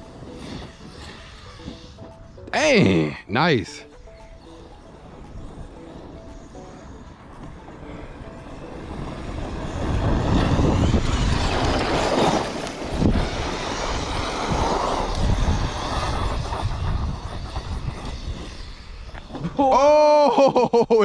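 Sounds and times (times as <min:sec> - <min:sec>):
rc truck driving over dirt: 0:00.0 - 0:03.0, 0:04.2 - 0:19.6.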